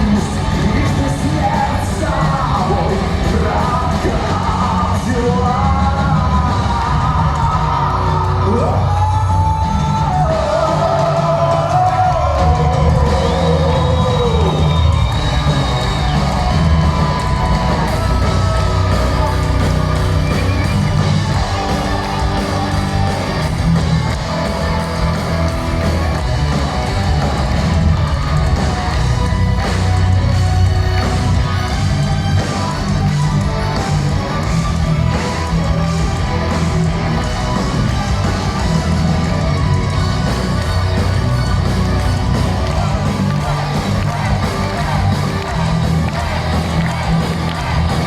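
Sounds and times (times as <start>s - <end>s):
heavy metal band playing: 0.0s - 48.0s.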